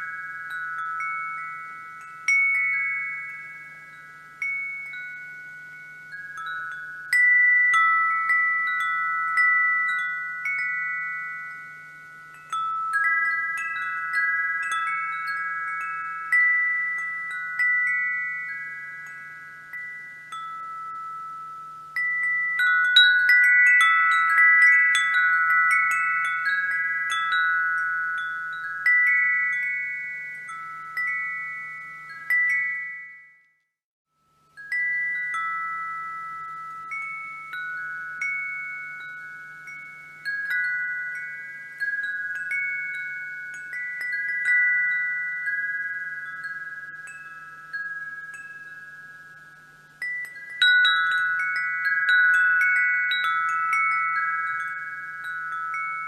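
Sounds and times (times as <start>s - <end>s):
wind chimes ringing: 0.0s - 56.0s.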